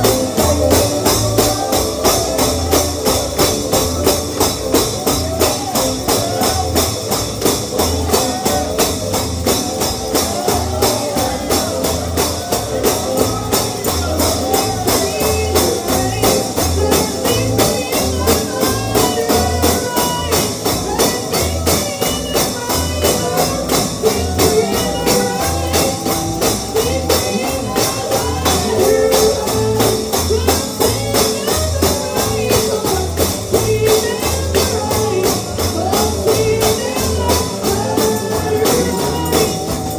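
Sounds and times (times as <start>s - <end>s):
bluegrass gospel music: 0.0s - 39.9s
tambourine jingling: 0.0s - 39.9s.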